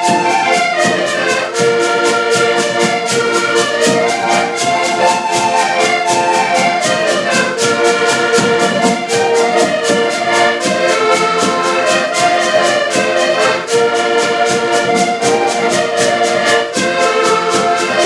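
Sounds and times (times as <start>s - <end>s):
brass instruments playing: 0.0s - 18.0s
percussion beat: 0.0s - 18.0s.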